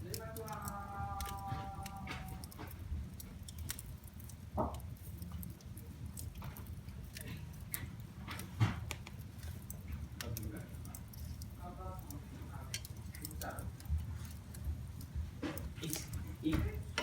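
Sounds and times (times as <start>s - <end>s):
loud fire pops: 0.0s - 17.0s
low rumble of flames: 0.0s - 17.0s
wood fire crackling: 0.0s - 17.0s.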